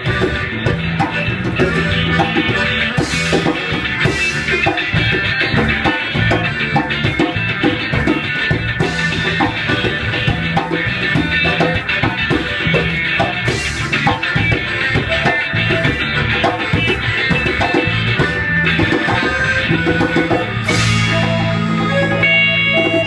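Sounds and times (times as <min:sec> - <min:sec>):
busy drumming: 0:00.0 - 0:23.0
live band playing: 0:00.0 - 0:23.0.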